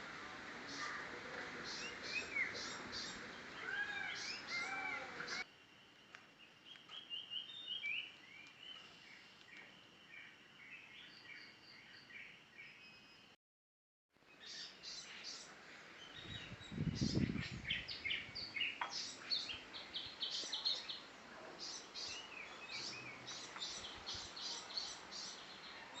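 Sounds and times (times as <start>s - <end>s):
birds chirping: 0.0s - 13.4s, 14.4s - 26.0s.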